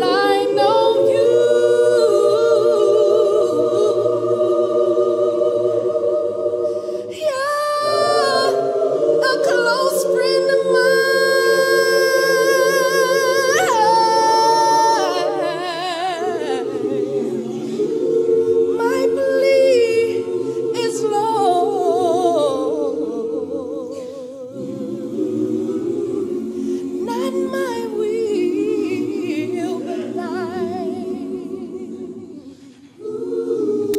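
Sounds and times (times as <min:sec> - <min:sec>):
a cappella group singing a hymn: 0:00.0 - 0:33.9.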